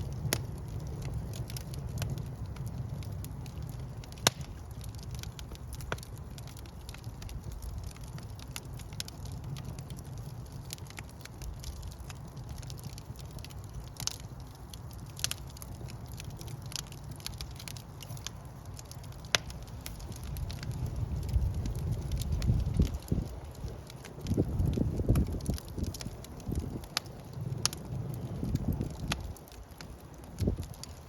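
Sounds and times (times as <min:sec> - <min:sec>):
fire flames rumbling: 0:00.0 - 0:31.0
wood crackling and popping: 0:00.0 - 0:31.0.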